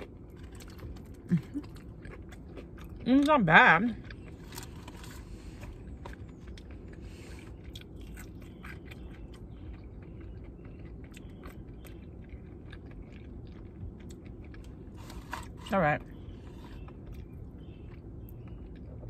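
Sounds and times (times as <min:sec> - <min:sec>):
chewing and crunching fried food: 0:00.0 - 0:19.0.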